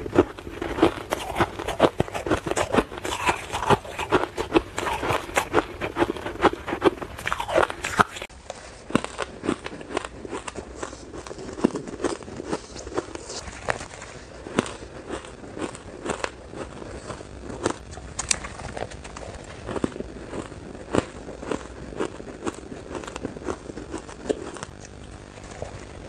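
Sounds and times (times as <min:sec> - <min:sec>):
ice crunching while chewed: 0:00.0 - 0:26.0.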